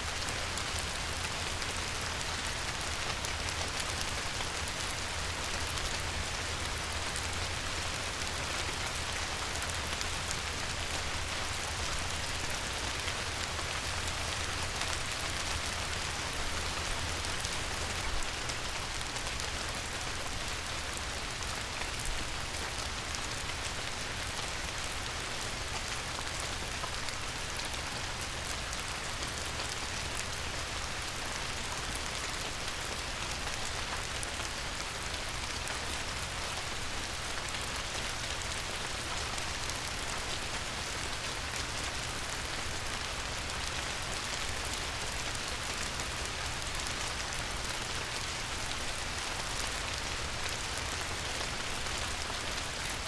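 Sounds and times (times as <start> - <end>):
light rain on river water: 0.0 - 53.0.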